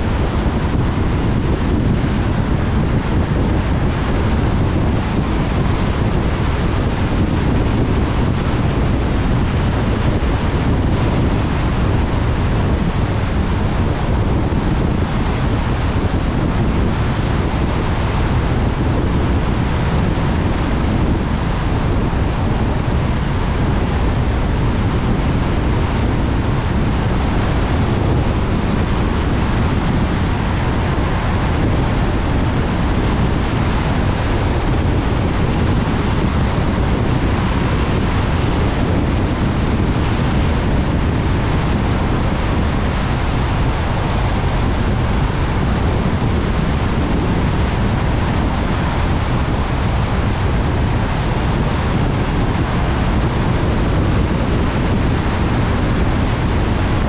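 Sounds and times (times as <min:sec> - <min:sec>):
car road noise on wet road: 0:00.0 - 0:57.0.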